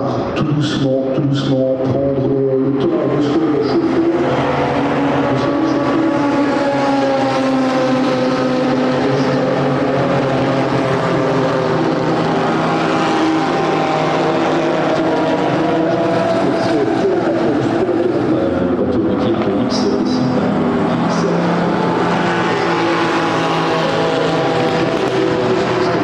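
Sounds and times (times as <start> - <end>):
racing car engines passing: 0.0 - 26.0.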